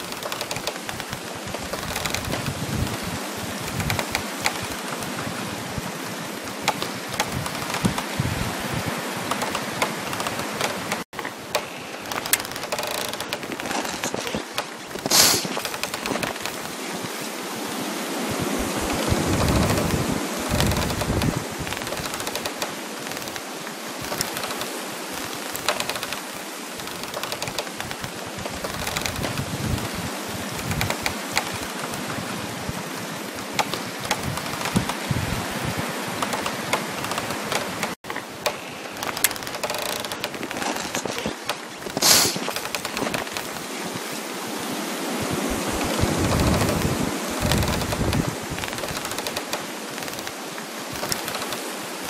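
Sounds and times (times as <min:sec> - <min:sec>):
dense fine crackling: 0:00.0 - 0:44.2, 0:45.2 - 0:52.0
wind rushing hiss: 0:00.0 - 0:52.0.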